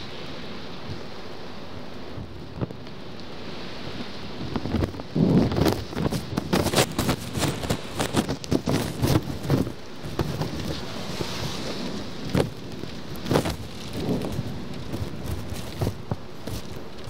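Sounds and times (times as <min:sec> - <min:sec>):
heavy rain on glass: 0:00.0 - 0:17.0.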